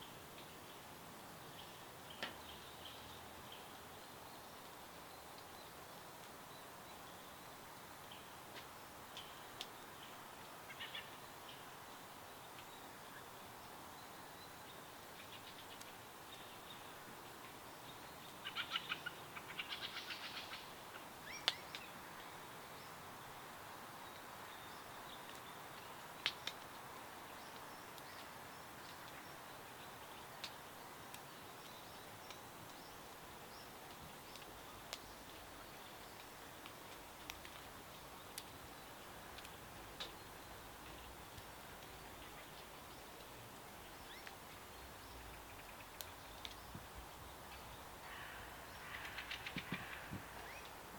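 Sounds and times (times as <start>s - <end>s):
faint steady hiss: 0.0s - 50.9s
songbirds chirping: 0.0s - 50.9s.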